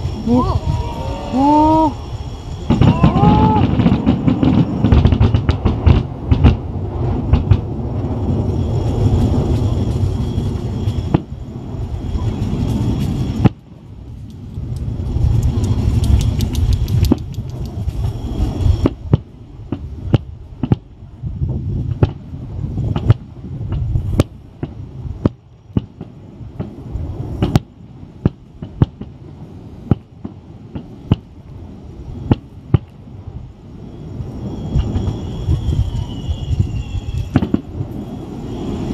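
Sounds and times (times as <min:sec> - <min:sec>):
fireworks bursting: 0:01.8 - 0:21.1, 0:21.8 - 0:38.9.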